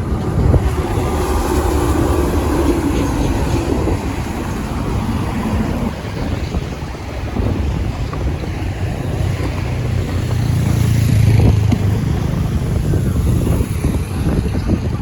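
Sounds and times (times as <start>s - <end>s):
low vehicle rumble: 0.0s - 15.0s
wind buffeting microphone: 0.0s - 15.0s.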